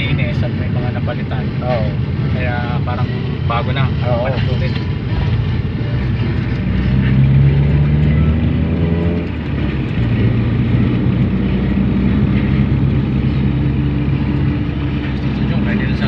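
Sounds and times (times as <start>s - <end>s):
car engine pulling: 0.0s - 16.0s.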